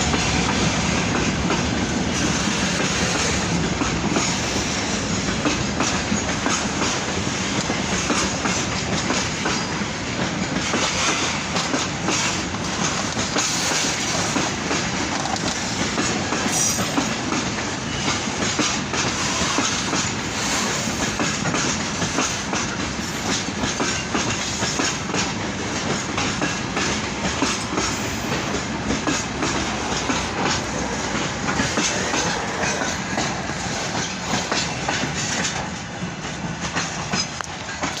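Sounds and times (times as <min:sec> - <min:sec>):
freight train wheels clicking: 0:00.0 - 0:38.0.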